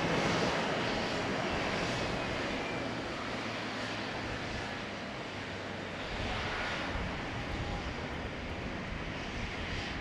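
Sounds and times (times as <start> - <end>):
jet engines rushing with whine: 0.0 - 10.0.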